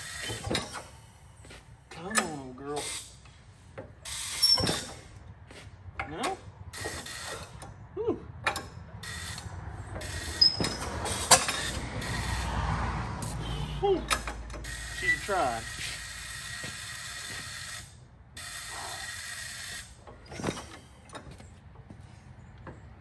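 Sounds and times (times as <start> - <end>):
tractor engine cranking and clattering: 0.0 - 1.2, 1.8 - 23.0.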